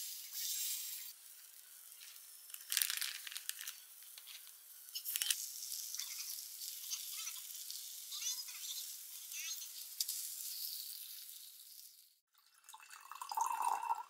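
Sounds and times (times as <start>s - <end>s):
batter sizzling faintly: 0.0s - 12.2s.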